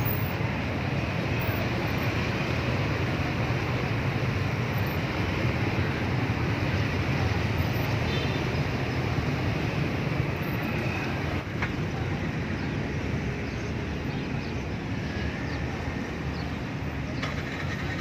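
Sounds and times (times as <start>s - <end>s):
street background rumble: 0.0s - 18.0s.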